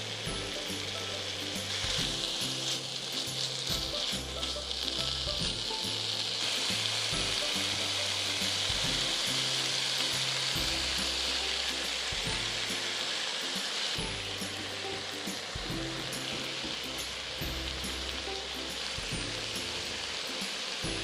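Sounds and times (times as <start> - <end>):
background music with bass: 0.0 - 13.1, 14.0 - 21.0
food sizzling in hot oil: 0.0 - 21.0.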